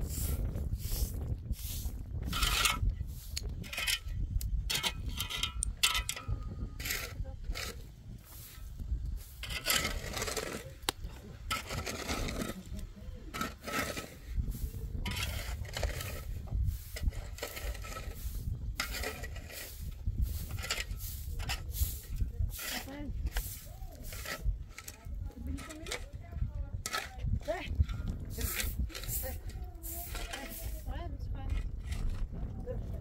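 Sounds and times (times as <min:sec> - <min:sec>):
scraping and rubbing noises: 0:00.0 - 0:33.0
wind rumble on microphone: 0:00.0 - 0:33.0.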